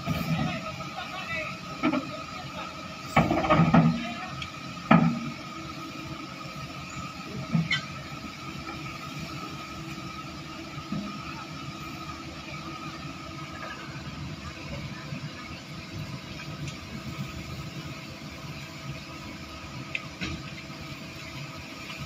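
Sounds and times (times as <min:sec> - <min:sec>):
excavator engine and hydraulics whine: 0:00.0 - 0:22.0.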